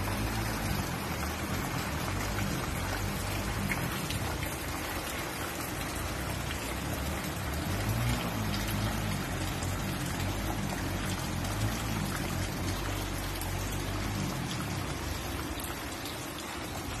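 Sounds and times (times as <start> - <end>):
rain falling on water: 0.0 - 17.0.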